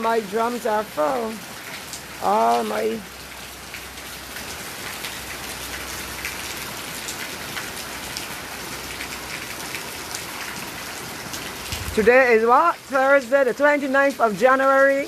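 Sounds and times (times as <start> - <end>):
heavy rain pouring: 0.0 - 15.0
raindrops splashing: 0.0 - 15.0.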